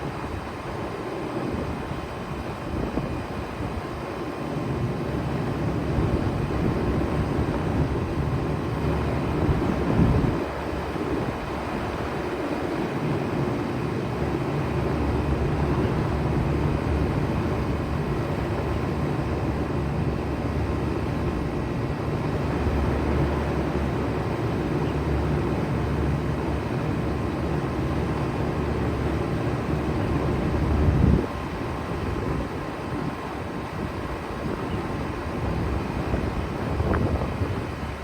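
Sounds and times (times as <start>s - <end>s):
heat pump humming: 0.0s - 38.0s.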